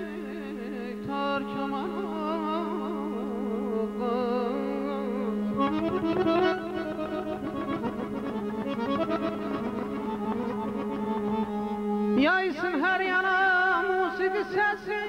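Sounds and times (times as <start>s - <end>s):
accordion melody with drone: 0.0s - 15.0s.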